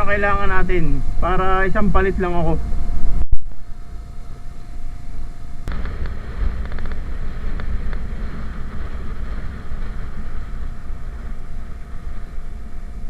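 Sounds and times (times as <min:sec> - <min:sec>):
scooter low rumble: 0:00.0 - 0:13.0
wind buffeting microphone: 0:00.0 - 0:13.0.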